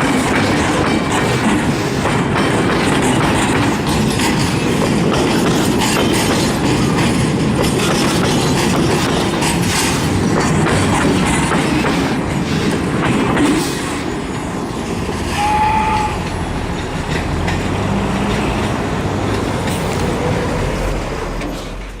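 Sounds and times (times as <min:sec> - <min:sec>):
freight train wheels clacking: 0:00.0 - 0:22.0.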